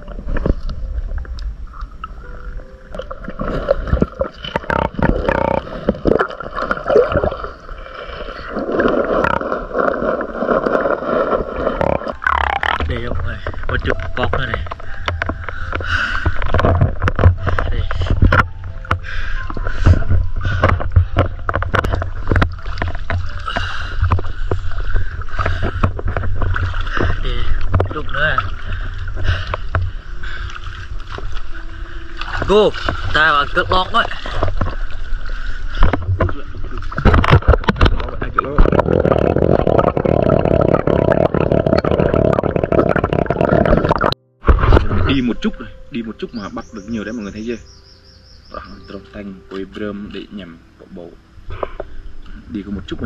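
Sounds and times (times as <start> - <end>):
underwater gurgling and bubbling: 0.0 - 45.0
water splashing: 0.0 - 45.2
low rumble of stream: 0.0 - 53.0.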